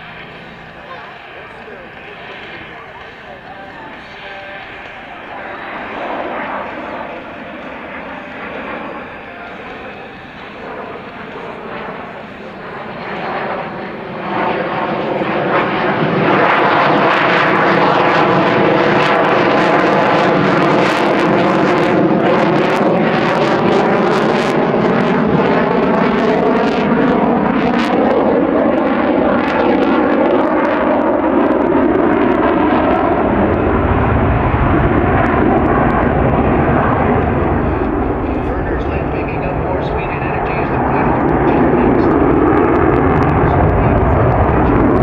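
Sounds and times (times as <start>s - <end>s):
jet engines passing: 0.0s - 45.0s.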